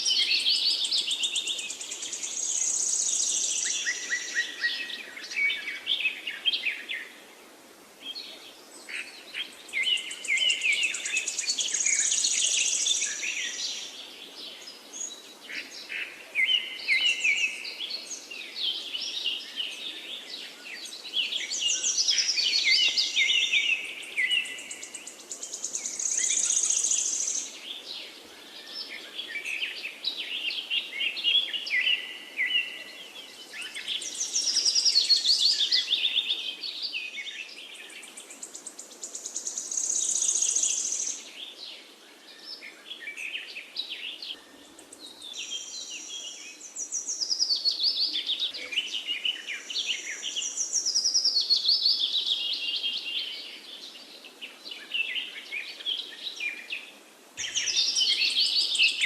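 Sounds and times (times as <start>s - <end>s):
songbirds chirping and singing: 0.0s - 7.3s, 8.0s - 59.0s
faint steady hiss: 0.0s - 59.0s.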